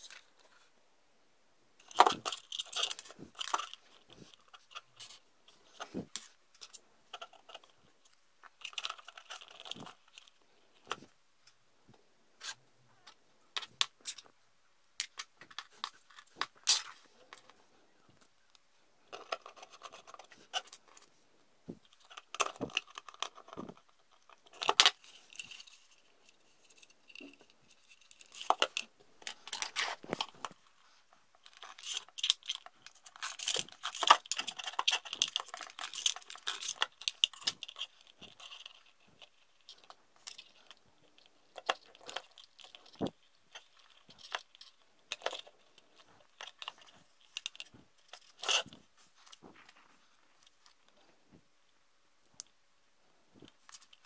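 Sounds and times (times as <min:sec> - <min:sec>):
scratchy rustling of wires: 0:01.8 - 0:11.6, 0:15.0 - 0:51.5.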